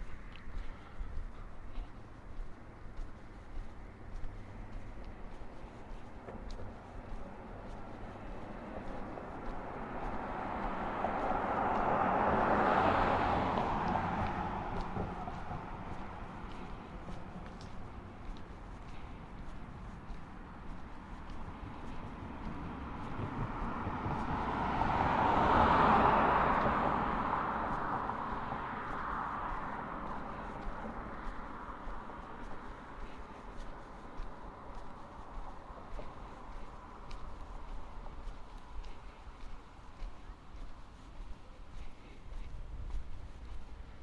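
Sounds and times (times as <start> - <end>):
vehicle passing by: 0.0 - 44.0
car driving past: 4.2 - 40.1.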